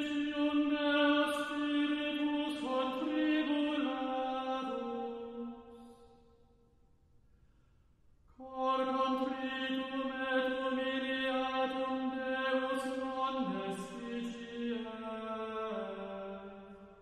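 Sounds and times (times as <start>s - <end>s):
chant sung in long notes: 0.0s - 5.8s, 8.4s - 17.0s.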